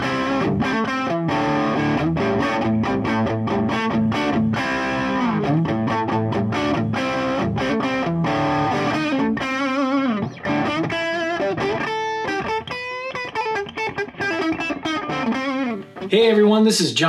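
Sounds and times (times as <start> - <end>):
electric guitar with vibrato: 0.0 - 16.1.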